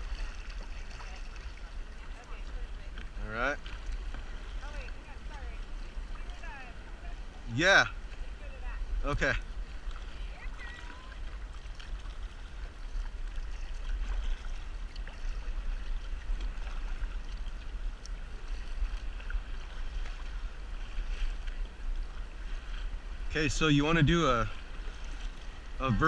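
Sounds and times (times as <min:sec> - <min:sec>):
water splashing around a kayak: 0:00.0 - 0:26.0.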